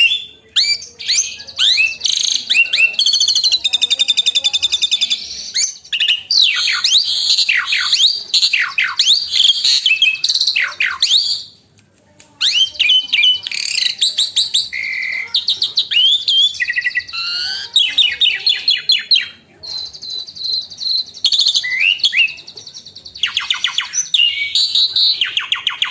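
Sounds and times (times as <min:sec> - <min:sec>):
starling singing: 0:00.0 - 0:11.6, 0:12.4 - 0:25.9.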